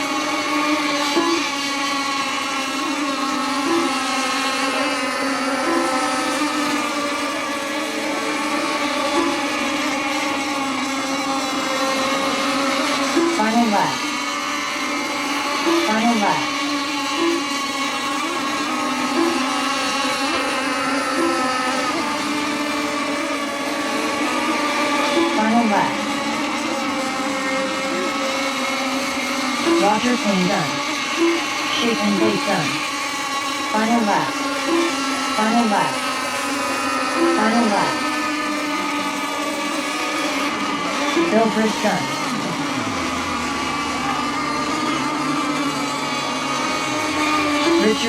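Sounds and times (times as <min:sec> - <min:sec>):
model boat engines droning: 0:00.0 - 0:48.0.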